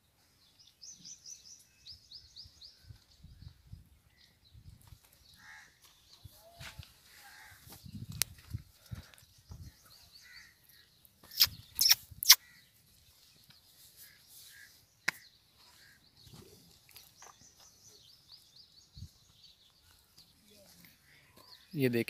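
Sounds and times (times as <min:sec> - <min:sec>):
birds chirping: 0:00.3 - 0:22.0.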